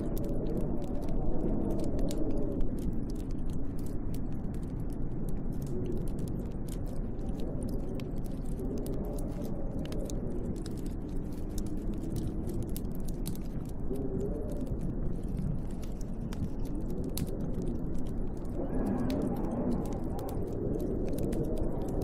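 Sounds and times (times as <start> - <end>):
wind howling: 0.0 - 22.0
wood fire crackling: 0.0 - 22.0.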